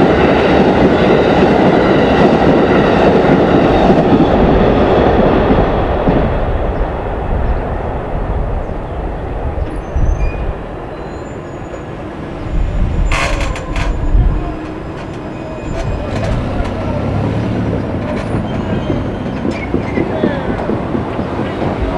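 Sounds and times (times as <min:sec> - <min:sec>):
passenger train rumble: 0:00.0 - 0:21.9.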